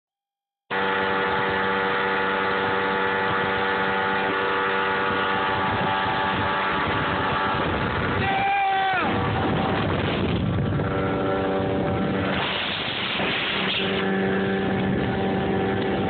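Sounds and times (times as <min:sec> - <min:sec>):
outboard motor running: 0:00.5 - 0:16.0
water rushing past hull: 0:00.7 - 0:16.0.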